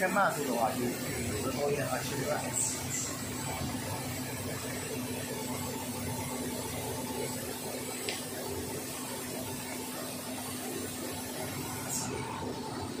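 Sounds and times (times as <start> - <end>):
machine hum and whir: 0.0 - 13.0.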